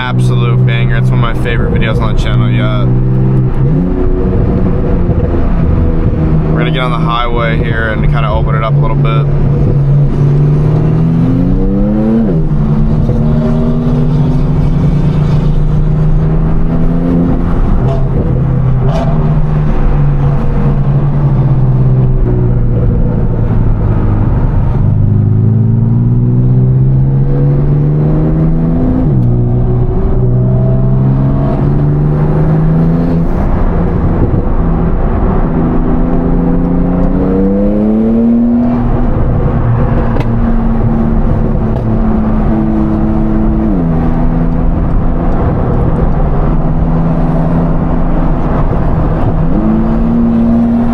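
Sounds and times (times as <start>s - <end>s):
sports car engine accelerating: 0.0s - 50.9s.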